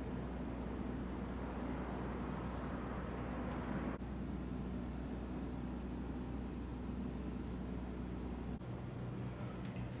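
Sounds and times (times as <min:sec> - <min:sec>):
low hum with faint hiss: 0:00.0 - 0:10.0.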